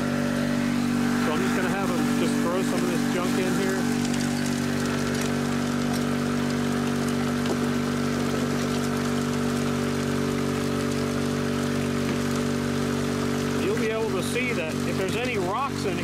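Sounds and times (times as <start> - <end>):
water pump engine hum: 0.0 - 16.0
water rushing down a sluice: 0.2 - 16.0.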